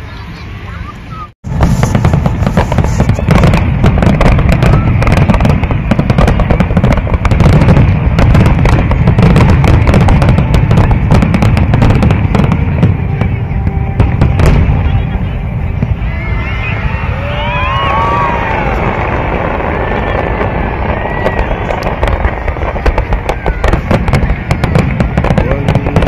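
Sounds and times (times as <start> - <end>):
heavy low rumble: 0.0 - 26.0
fireworks crackles and bangs: 1.4 - 26.0.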